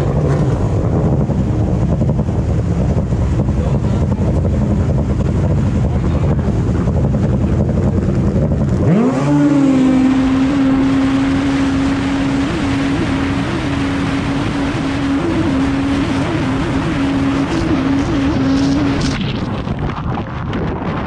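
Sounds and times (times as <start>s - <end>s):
watercraft engine revving: 0.0s - 21.0s
wind and spray rushing: 0.0s - 21.0s.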